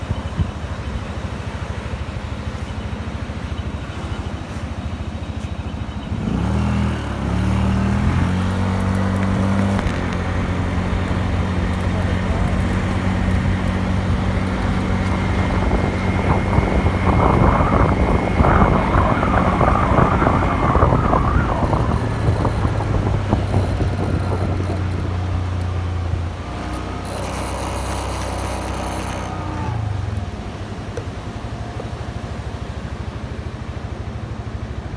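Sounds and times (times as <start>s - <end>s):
scooter engine starting and running: 0.0s - 34.9s.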